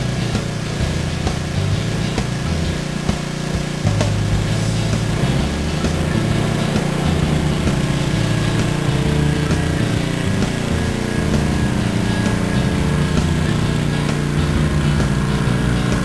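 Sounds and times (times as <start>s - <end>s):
small gas engine running: 0.0s - 16.0s.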